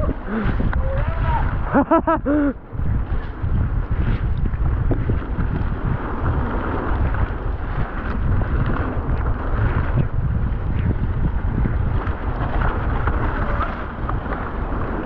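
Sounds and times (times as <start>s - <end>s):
bike tyres rumbling and rattling: 0.0s - 15.0s
wind buffeting microphone: 0.0s - 15.0s.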